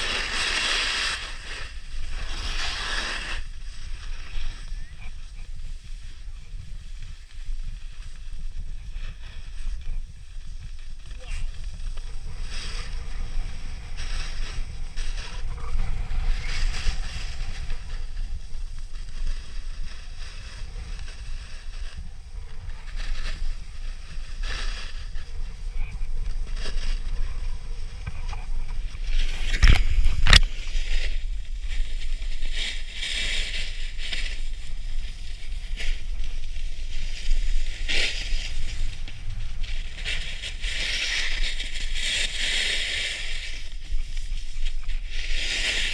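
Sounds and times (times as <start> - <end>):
snowboard scraping over snow: 0.0 - 45.9
wind rumble on microphone: 0.0 - 45.9.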